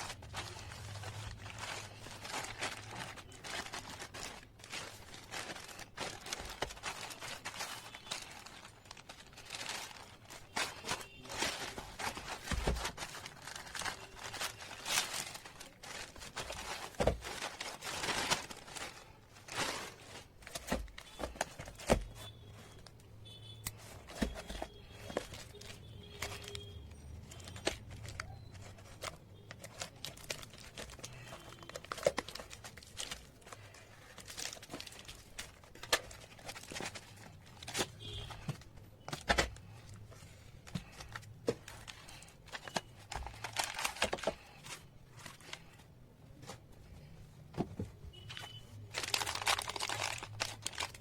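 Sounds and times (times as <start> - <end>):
plastic crinkling and tearing: 0.0 - 23.0, 23.6 - 46.5, 48.1 - 51.0.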